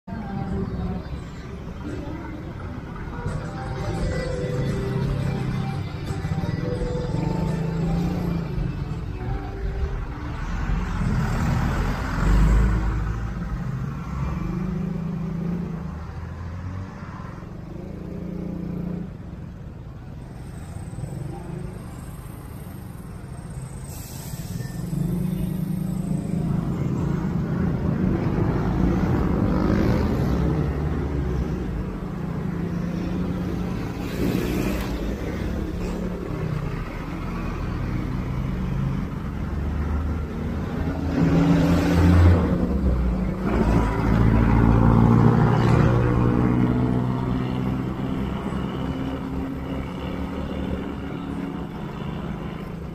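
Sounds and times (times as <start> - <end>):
road and wind noise: 0.0 - 52.9.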